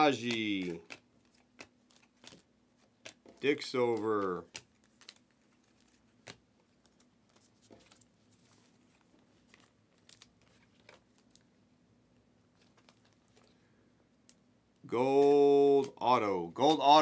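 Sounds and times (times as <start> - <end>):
trading cards being flipped: 0.0 - 11.5, 12.5 - 13.6, 15.1 - 17.0.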